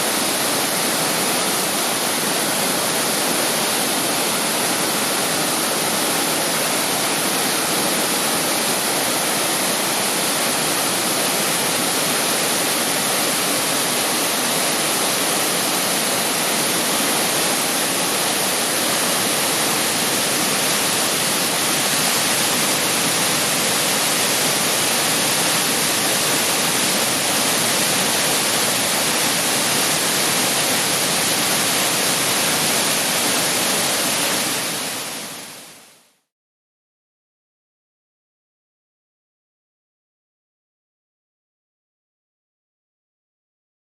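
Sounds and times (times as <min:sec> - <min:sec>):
waterfall rushing: 0:00.0 - 0:35.8.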